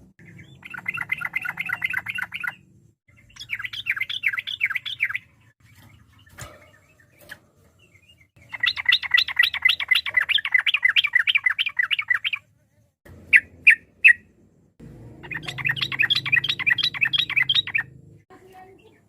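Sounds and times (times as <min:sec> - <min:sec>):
bulbul singing: 0:00.0 - 0:19.0.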